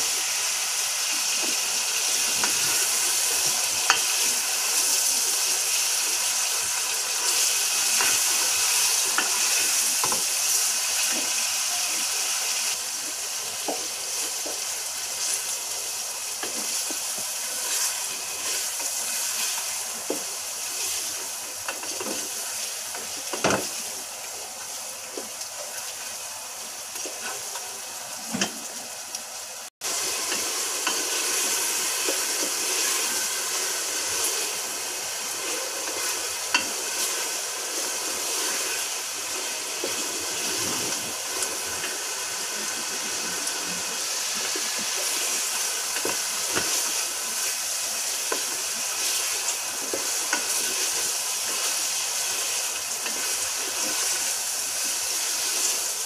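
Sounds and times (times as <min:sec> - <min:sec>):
meat sizzling in hot oil: 0:00.0 - 0:56.0.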